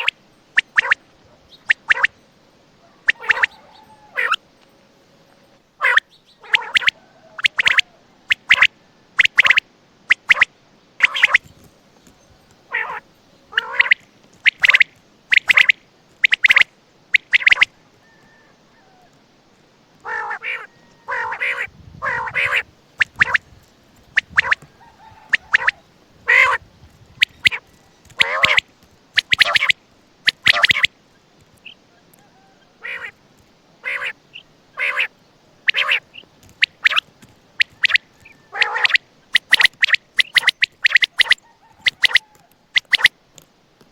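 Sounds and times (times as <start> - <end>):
quail calling: 0.0 - 2.2, 2.8 - 4.4, 5.8 - 19.2, 20.0 - 30.9, 31.6 - 43.2.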